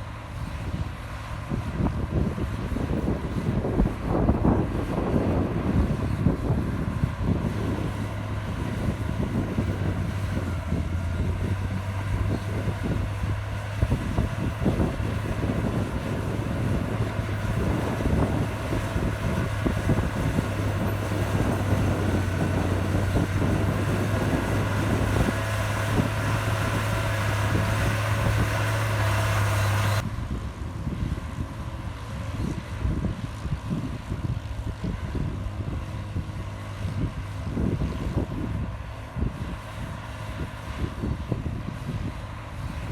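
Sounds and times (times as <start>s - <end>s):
heavy diesel machinery running: 0.0s - 42.9s.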